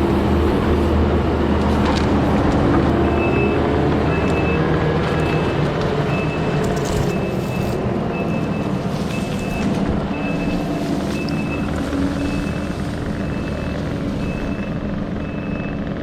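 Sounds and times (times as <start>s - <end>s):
diesel heavy equipment running: 0.0s - 16.0s
reversing alarm beeping: 2.9s - 16.0s.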